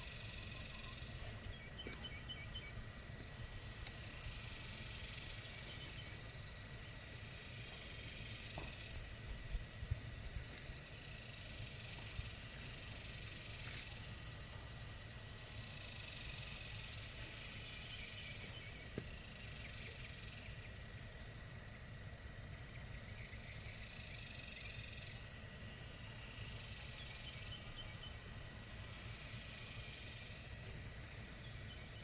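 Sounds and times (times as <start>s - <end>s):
high hissing buzz: 0.0s - 32.0s.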